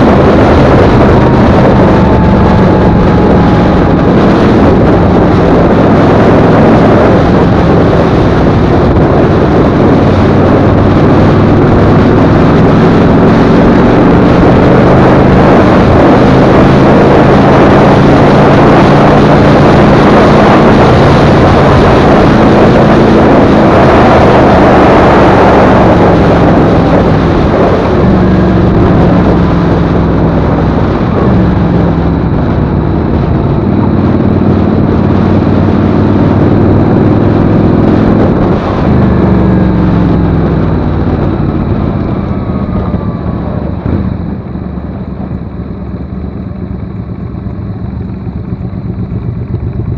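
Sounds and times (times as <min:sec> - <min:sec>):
motorcycle engine cruising: 0:00.0 - 0:49.9
wind rush on microphone: 0:00.0 - 0:49.9.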